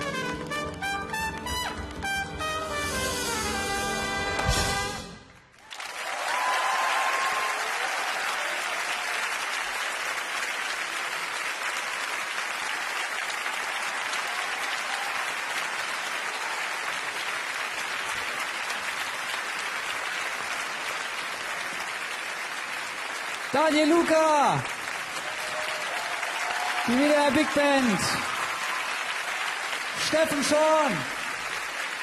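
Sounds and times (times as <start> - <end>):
audience applauding: 0.0 - 2.9, 4.1 - 32.0.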